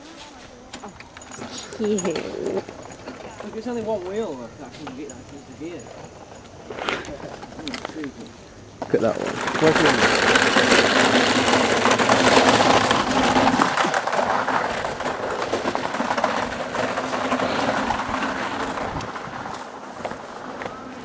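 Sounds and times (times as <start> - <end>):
plastic wheels rattling on rough track: 0.0 - 21.0.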